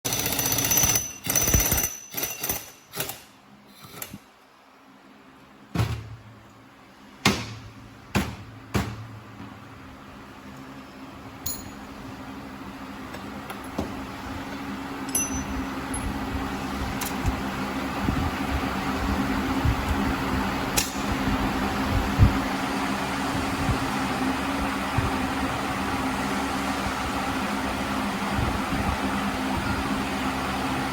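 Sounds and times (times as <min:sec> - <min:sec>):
steady low hum with hiss: 0:02.6 - 0:30.9.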